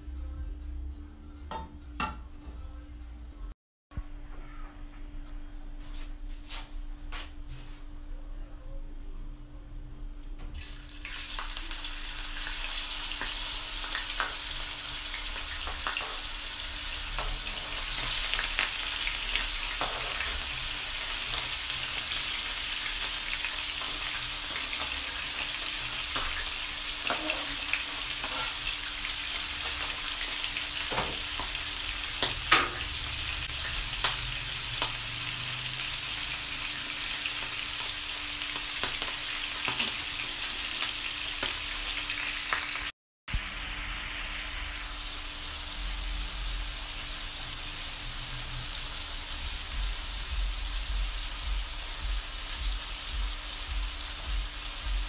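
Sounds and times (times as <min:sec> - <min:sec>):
chicken sizzling in a frying pan: 0:10.6 - 0:55.0.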